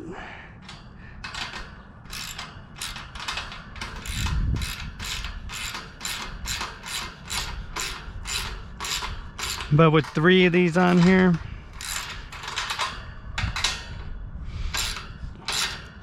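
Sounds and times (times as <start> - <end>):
ratchet wrench clicking: 0.6 - 14.0, 14.6 - 16.0.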